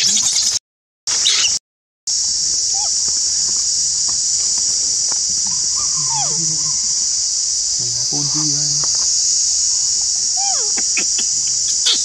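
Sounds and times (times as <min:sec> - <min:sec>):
insects droning in trees: 0:00.0 - 0:12.0.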